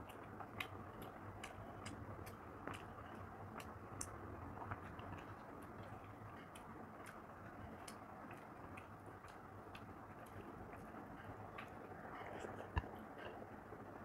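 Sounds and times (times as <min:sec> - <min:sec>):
fingers mixing rice on a plate: 0:00.0 - 0:14.0
steady low hum: 0:00.0 - 0:14.0.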